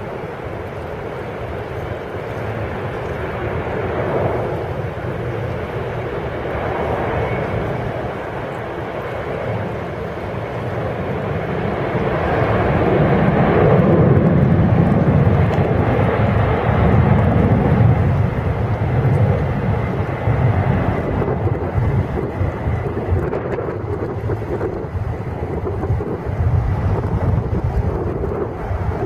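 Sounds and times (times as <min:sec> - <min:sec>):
faint high engine whine: 0:00.0 - 0:29.0
jet engines deep rumble: 0:00.0 - 0:29.0.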